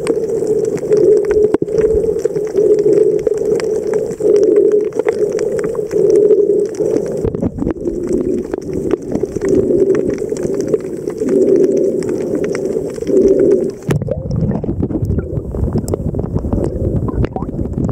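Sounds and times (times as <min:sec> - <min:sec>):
crackling clicks: 0:00.0 - 0:17.9
muffled underwater hum: 0:00.0 - 0:17.9
rumbling water noise: 0:00.0 - 0:17.9.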